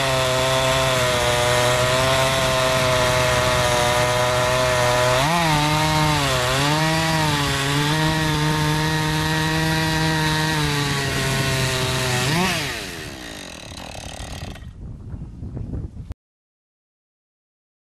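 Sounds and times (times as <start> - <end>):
chainsaw cutting through log: 0.0 - 14.8.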